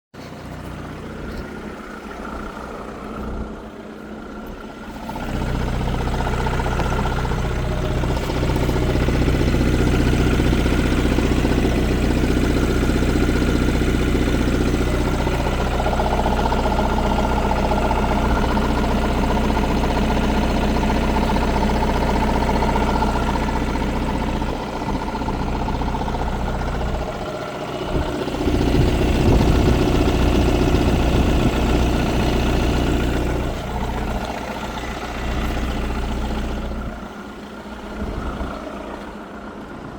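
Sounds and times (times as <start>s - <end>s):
diesel engine idling with knock: 0.1s - 39.9s.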